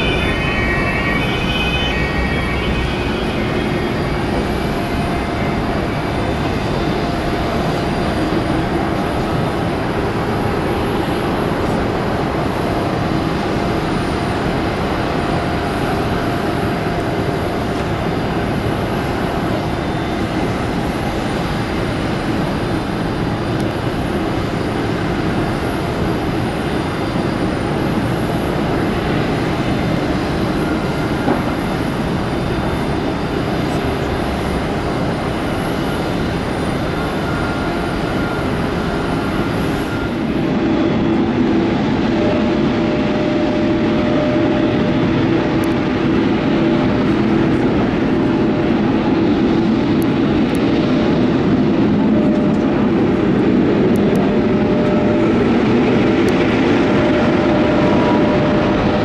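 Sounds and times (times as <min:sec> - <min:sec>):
faint engine whine: 0:00.0 - 0:59.0
jet engines rushing: 0:00.0 - 0:59.0.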